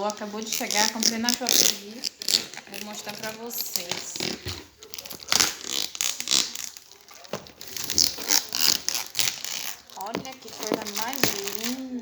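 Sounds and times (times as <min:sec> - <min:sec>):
packaging tearing and crinkling: 0:00.0 - 0:12.0.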